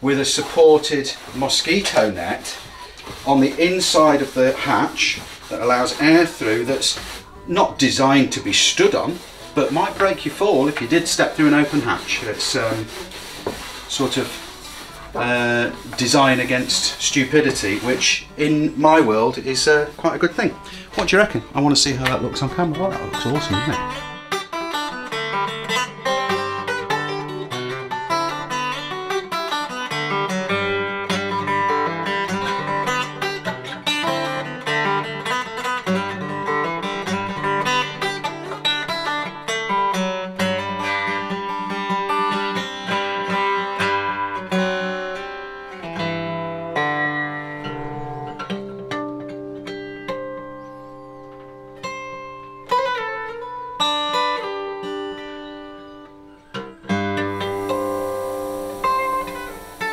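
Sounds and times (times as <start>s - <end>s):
acoustic guitar playing: 0.0s - 59.9s.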